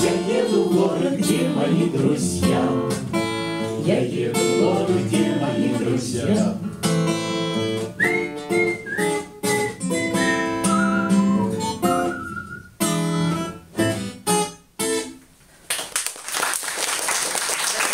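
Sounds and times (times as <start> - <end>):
acoustic guitar chords: 0.0 - 15.2.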